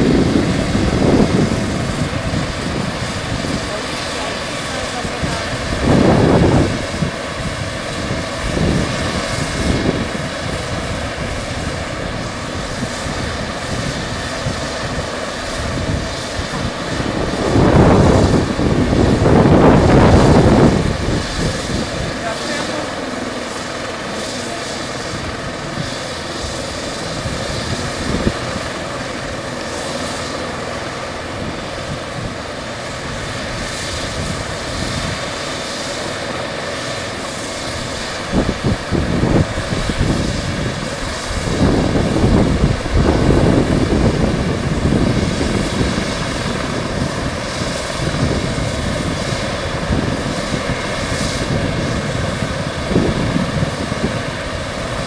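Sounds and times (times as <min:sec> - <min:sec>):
helicopter turbine whine: 0:00.0 - 0:55.0.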